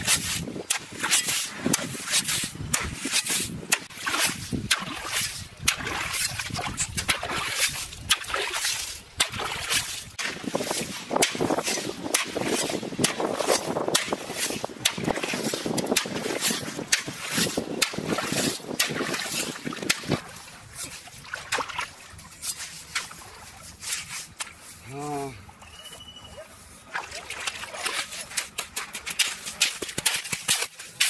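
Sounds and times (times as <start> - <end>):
hoe chopping wet sand and gravel: 0.0 - 25.3, 26.6 - 31.0.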